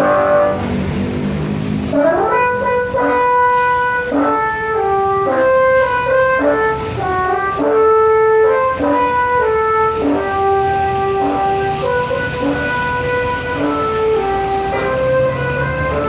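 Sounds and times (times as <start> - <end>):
multi-tone bus air horns: 0.0 - 16.0.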